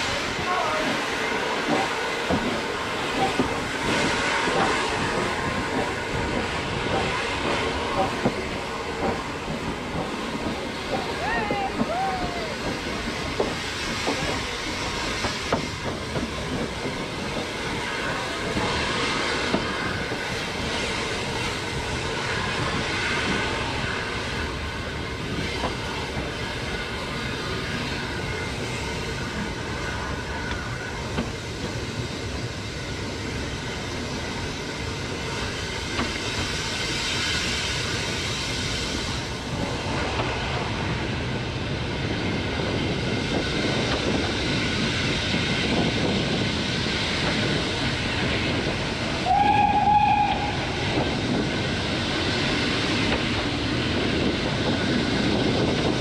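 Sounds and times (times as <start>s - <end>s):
steam train rumble and hiss: 0.0s - 56.0s.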